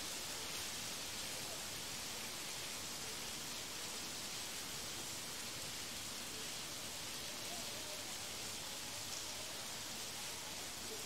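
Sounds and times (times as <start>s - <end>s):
rain falling on foliage: 0.0s - 11.0s.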